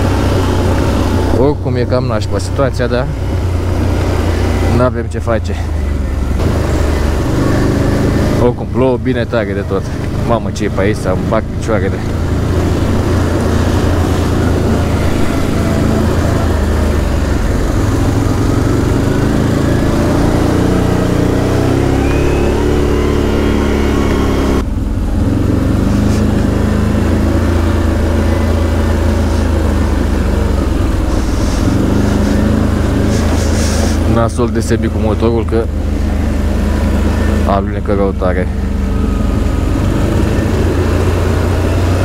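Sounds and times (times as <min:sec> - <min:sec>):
quad bike engine running: 0:00.0 - 0:42.0
wind: 0:00.0 - 0:42.0.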